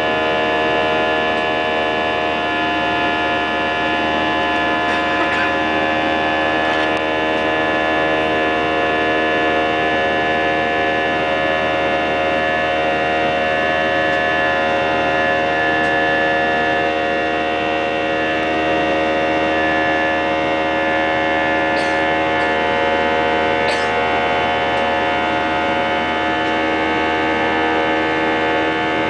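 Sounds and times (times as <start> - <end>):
jet engines droning: 0.0 - 29.0.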